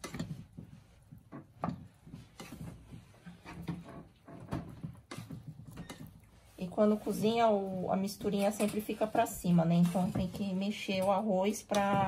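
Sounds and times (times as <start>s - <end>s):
rice paddle scraping pot: 0.0s - 10.6s.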